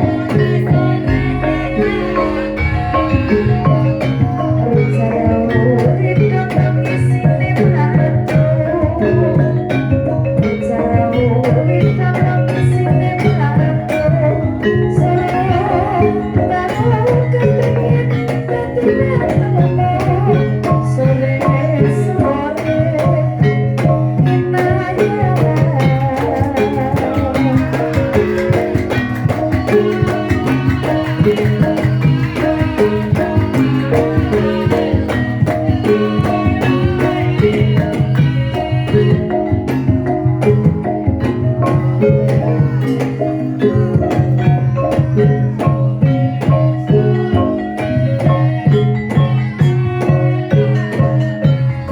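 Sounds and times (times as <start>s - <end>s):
drum strokes: 0.0s - 51.9s
struck metallophones: 0.0s - 51.9s.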